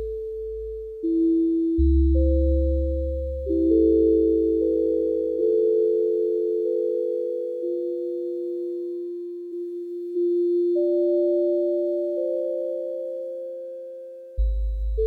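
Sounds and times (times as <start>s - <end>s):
electronic sine-like held tones: 0.0s - 15.0s.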